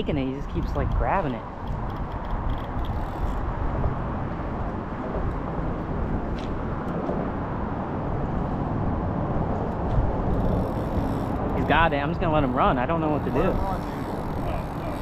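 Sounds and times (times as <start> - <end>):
steady rumbling noise: 0.0 - 15.0.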